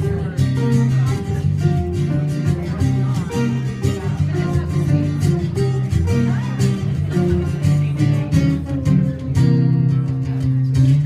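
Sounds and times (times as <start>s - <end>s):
acoustic guitar chords: 0.0s - 11.0s
mandolin melody: 0.0s - 11.0s.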